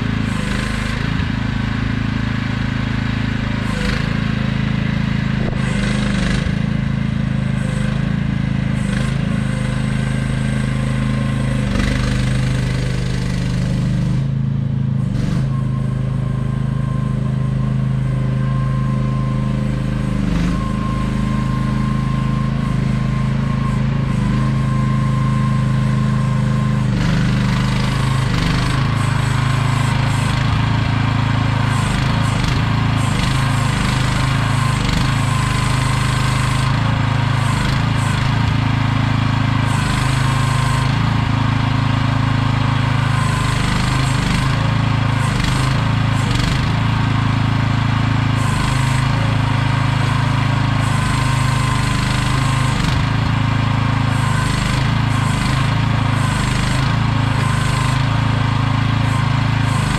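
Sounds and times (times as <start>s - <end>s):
small excavator engine running: 0.0s - 59.9s.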